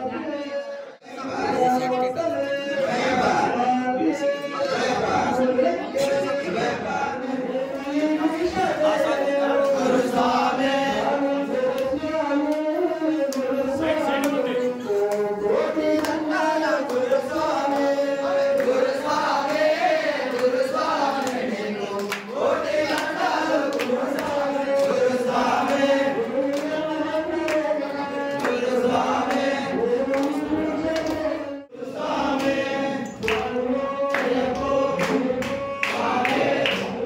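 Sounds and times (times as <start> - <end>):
devotional chanted singing: 0.0 - 37.0.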